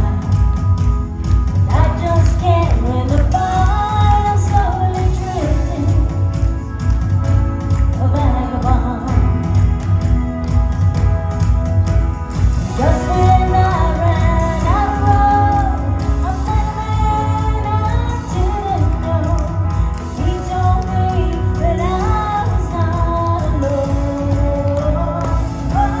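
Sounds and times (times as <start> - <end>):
person singing: 0.0 - 10.9, 12.5 - 26.0
band with steady low beat: 0.0 - 26.0.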